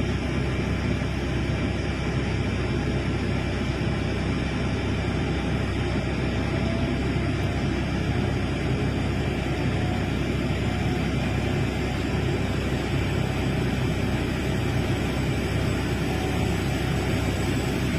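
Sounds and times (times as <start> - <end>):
excavator diesel engine droning: 0.0 - 17.9.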